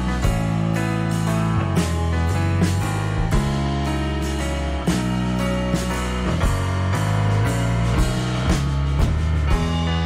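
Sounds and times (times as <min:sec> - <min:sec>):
band music with drum kit: 0:00.0 - 0:10.0.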